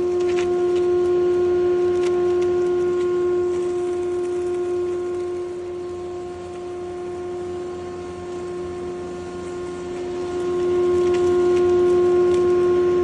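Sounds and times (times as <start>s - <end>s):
grinder motor humming: 0.0s - 13.0s.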